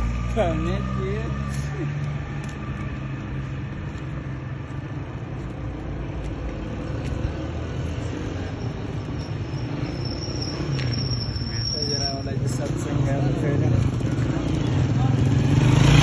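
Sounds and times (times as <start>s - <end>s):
street noise: 0.0s - 16.0s
vehicle engine rumbling: 0.0s - 16.0s.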